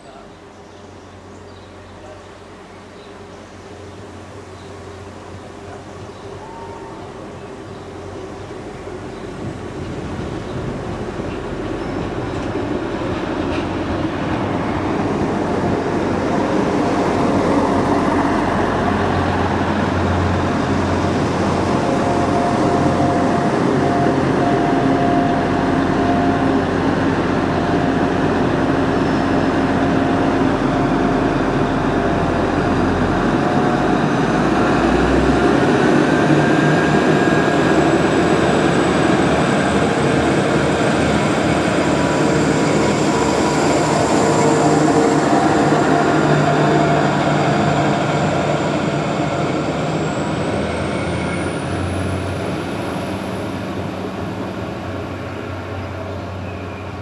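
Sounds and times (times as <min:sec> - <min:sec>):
diesel train engine rumbling: 0:00.0 - 0:57.0.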